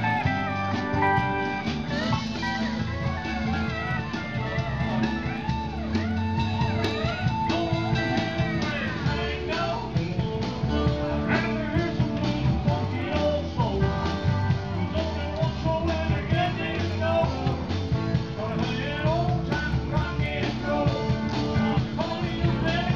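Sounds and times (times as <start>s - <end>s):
rock and roll band over speakers: 0.0s - 22.9s
person singing: 1.9s - 22.9s.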